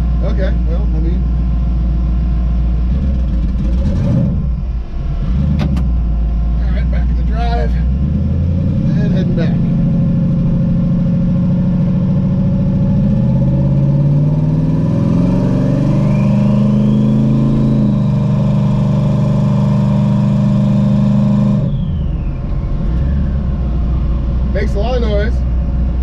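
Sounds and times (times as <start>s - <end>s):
car engine under throttle: 0.0s - 26.0s
turbo whine: 0.0s - 26.0s.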